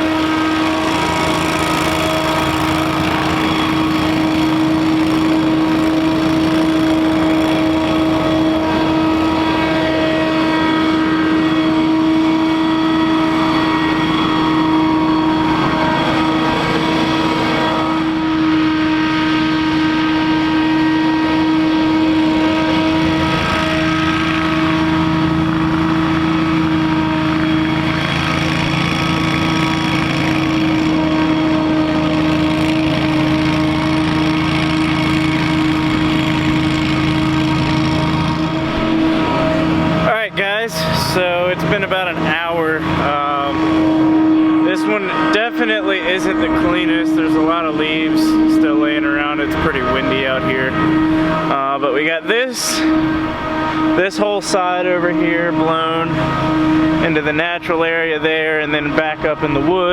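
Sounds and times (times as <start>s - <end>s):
leaf blower whine: 0.0s - 59.9s.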